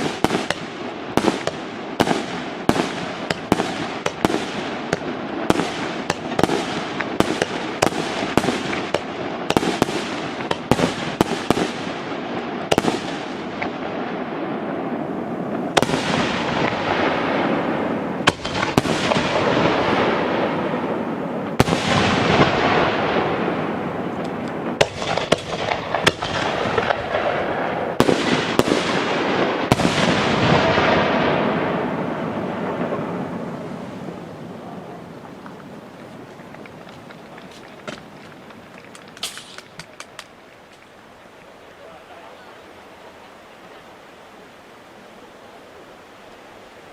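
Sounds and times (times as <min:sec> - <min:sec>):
fireworks bursting with sharp bangs: 0:00.0 - 0:40.9
long hissing tail of fireworks: 0:00.0 - 0:46.9.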